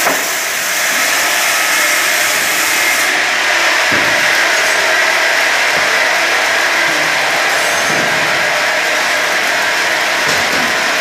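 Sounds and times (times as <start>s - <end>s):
rip saw cutting wood: 0.0s - 11.0s.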